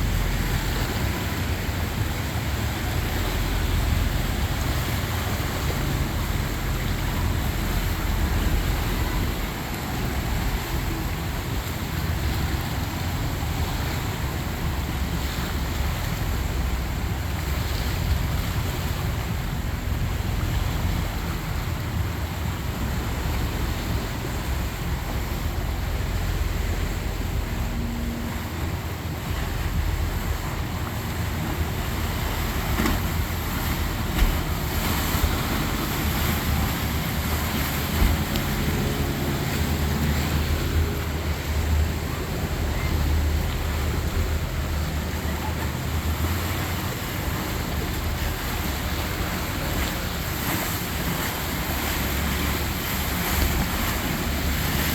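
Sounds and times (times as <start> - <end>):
motorboat engine rumble: 0.0 - 54.9
waves washing: 0.0 - 54.9.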